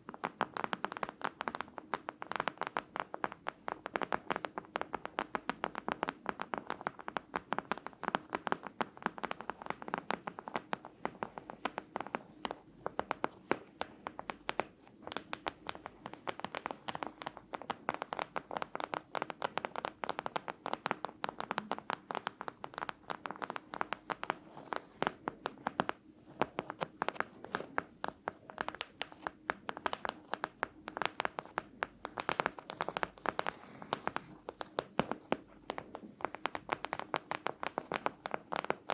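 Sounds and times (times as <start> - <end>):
fast tapping and scratching: 0.0 - 38.9.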